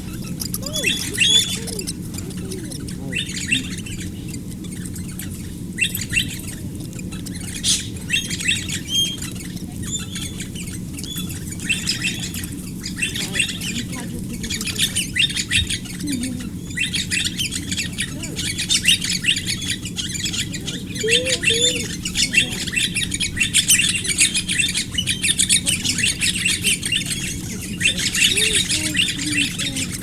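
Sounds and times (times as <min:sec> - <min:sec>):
birds chattering and squawking: 0:00.0 - 0:30.0
low background hum: 0:00.0 - 0:30.0.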